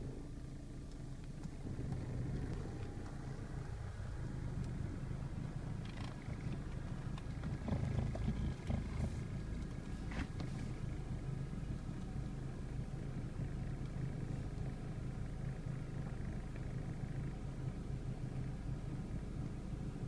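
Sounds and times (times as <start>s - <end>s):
radiator fan humming: 0.0s - 20.0s.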